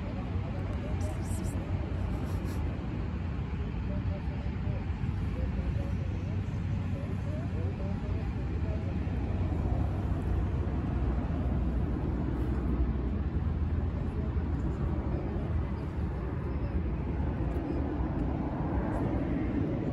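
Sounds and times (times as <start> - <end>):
outdoor background noise: 0.0 - 19.9.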